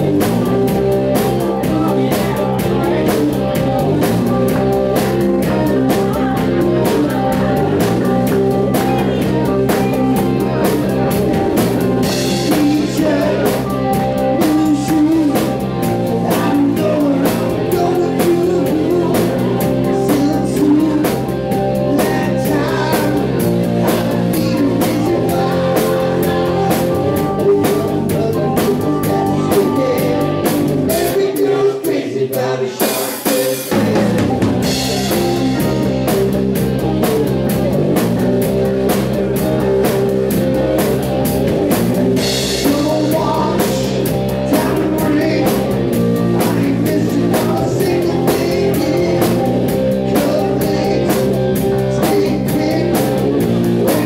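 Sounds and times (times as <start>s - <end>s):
person singing: 0.0s - 37.8s, 42.2s - 54.0s
drum kit beat: 0.0s - 54.0s
guitar: 0.0s - 54.0s
keyboard: 0.0s - 54.0s.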